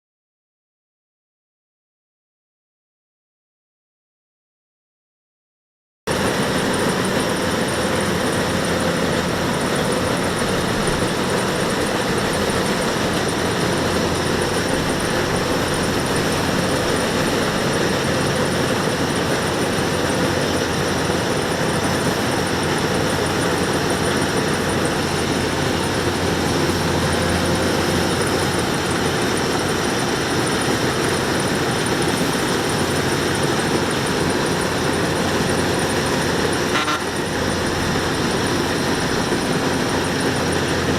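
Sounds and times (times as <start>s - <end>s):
combine harvester engine droning: 6.1s - 40.9s.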